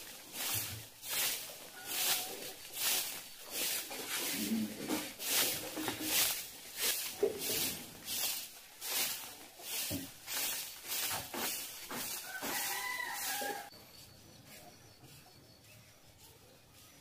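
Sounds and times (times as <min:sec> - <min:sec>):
broom sweeping dirt: 0:00.0 - 0:13.7.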